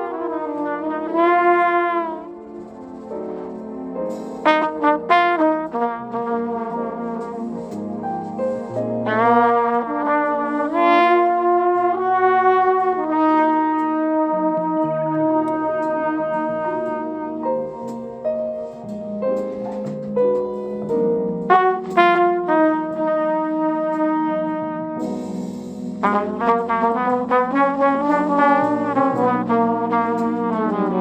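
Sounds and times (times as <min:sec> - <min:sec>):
jazz trumpet melody: 0:00.0 - 0:31.0.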